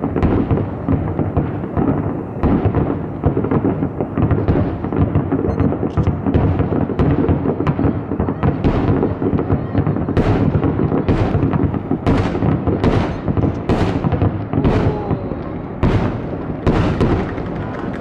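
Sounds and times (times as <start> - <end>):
fireworks rumble and crackle: 0.0 - 18.0.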